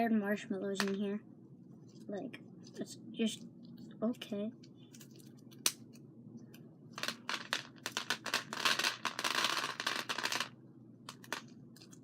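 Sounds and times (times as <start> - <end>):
small clicks and crackly rustling: 1.8 - 12.0.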